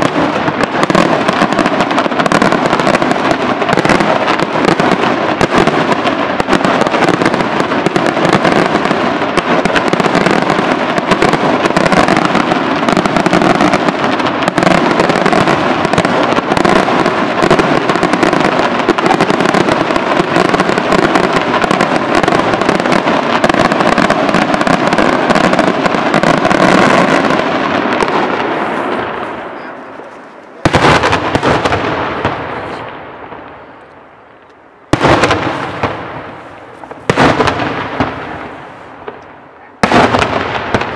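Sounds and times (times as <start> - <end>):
fireworks barrage: 0.0 - 40.9.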